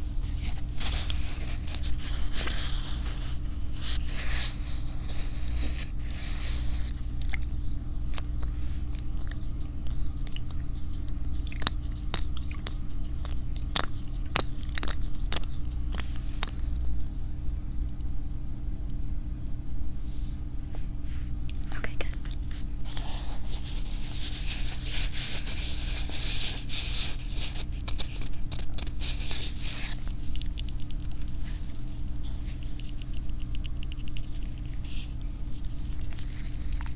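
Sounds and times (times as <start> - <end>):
steady low hum: 0.0 - 36.9
crisp clicks and crackles: 0.4 - 17.2, 21.5 - 36.9.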